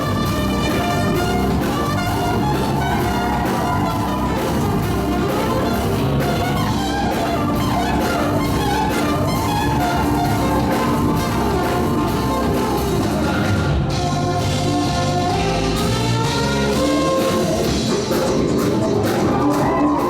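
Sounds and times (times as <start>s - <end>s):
gospel band with brass and drums: 0.0s - 20.0s.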